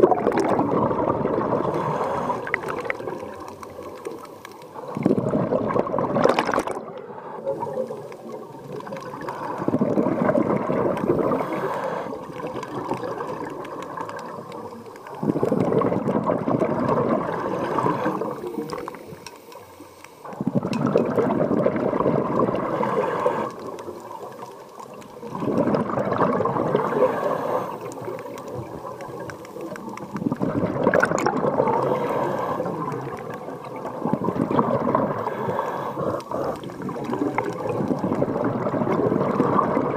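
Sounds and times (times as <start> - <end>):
underwater exhaust bubbles gurgling: 0.0 - 39.9.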